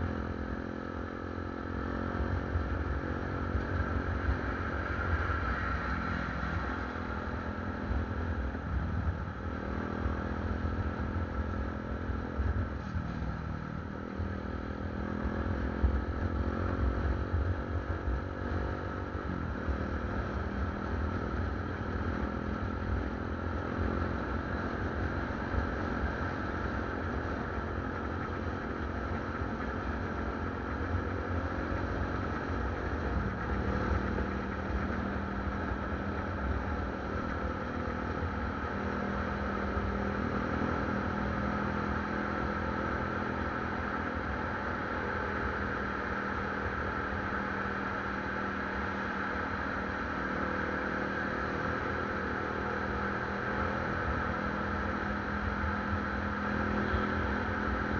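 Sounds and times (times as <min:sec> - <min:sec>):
motorcycle engine: 0:00.0 - 0:57.9.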